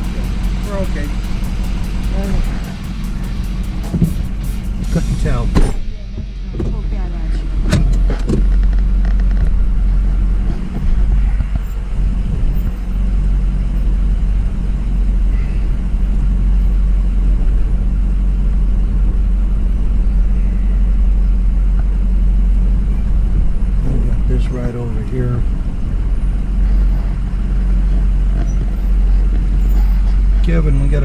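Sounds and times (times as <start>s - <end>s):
truck engine and tyres rumbling: 0.0s - 31.0s.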